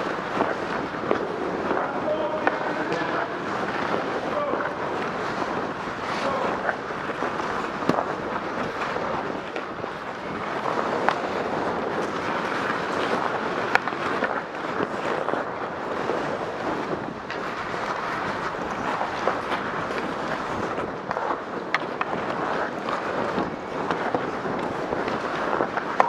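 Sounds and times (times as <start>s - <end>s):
hockey sticks and pucks clacking: 0.0s - 26.0s
skate blades scraping ice: 0.0s - 26.0s.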